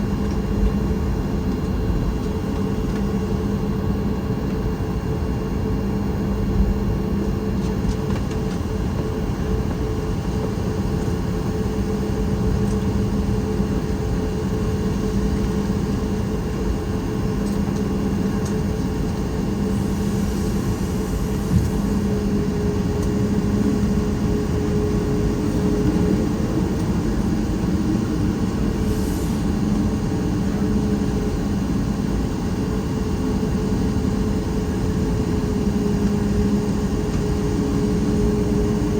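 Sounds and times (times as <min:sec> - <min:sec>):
aircraft cabin engine hum: 0:00.0 - 0:38.9.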